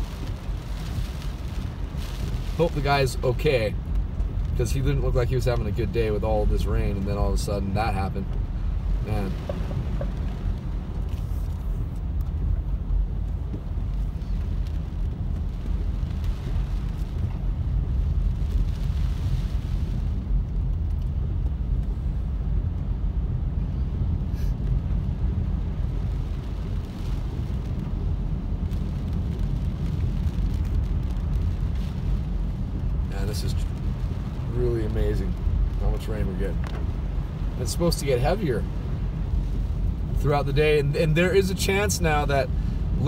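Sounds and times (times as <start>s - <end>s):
car engine and tyres on wet road: 0.0s - 43.0s.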